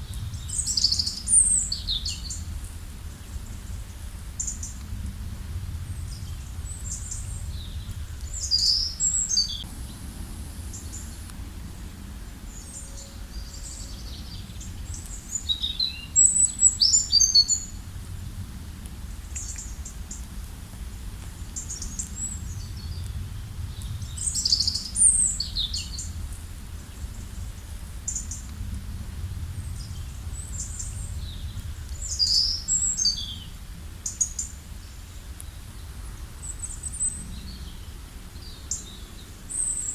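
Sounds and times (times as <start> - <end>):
songbirds singing: 0.0 - 4.8, 5.8 - 17.8, 19.1 - 20.3, 21.3 - 28.5, 29.6 - 39.9.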